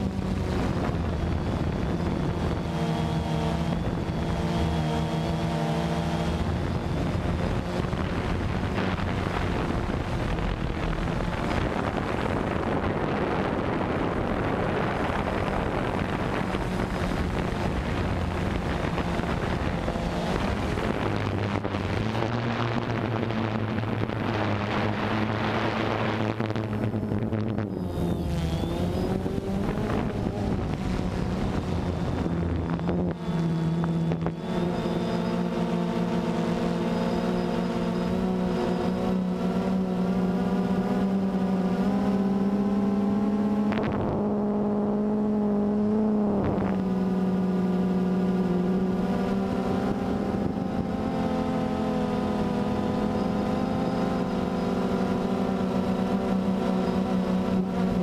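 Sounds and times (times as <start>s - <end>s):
drone motors buzzing: 0.0s - 58.0s.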